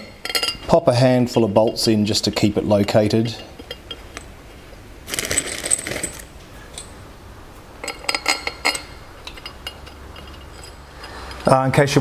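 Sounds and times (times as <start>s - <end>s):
metal bolts clinking: 0.0s - 4.4s, 5.1s - 7.0s, 7.8s - 11.6s.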